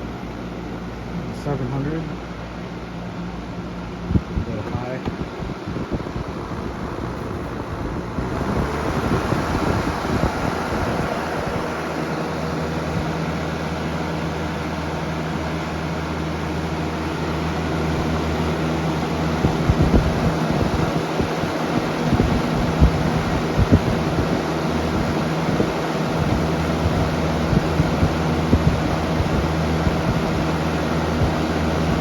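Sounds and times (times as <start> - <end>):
air gusts thumping microphone: 0.0 - 32.0
box fan air rush: 0.0 - 32.0
low motor hum: 0.0 - 32.0.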